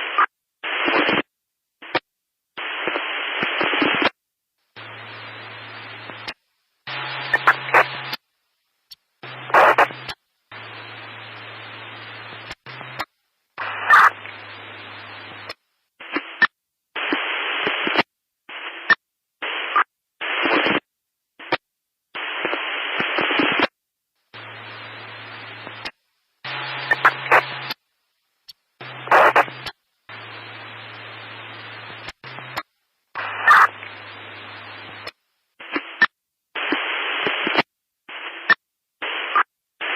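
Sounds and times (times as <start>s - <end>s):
sharp static crackles: 0.0s - 39.9s
static hiss bursts: 0.0s - 39.9s.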